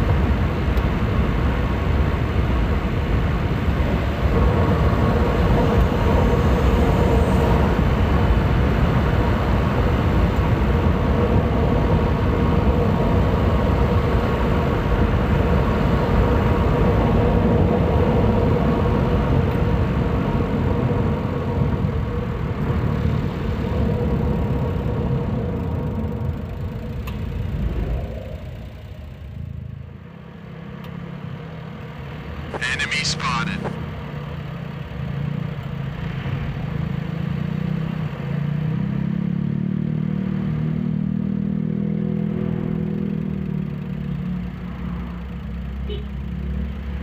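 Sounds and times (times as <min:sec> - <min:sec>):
car engine running while driving: 0:00.0 - 0:32.5, 0:33.2 - 0:47.0.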